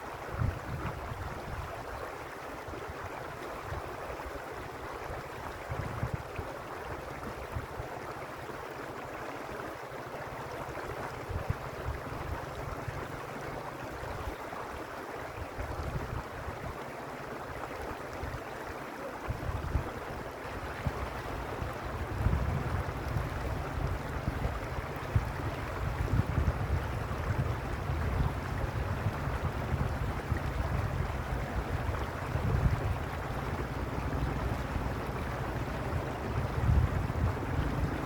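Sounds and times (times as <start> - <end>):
stream water babbling: 0.0 - 38.0
wind rumbling on microphone: 0.1 - 8.4, 10.4 - 16.8, 19.2 - 38.0.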